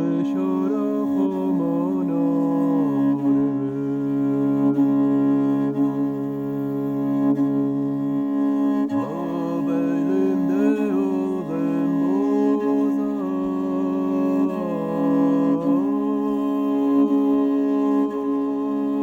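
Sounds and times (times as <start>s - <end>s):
low voice singing: 0.0s - 6.4s, 8.9s - 19.0s
bowed string drone: 0.0s - 19.0s.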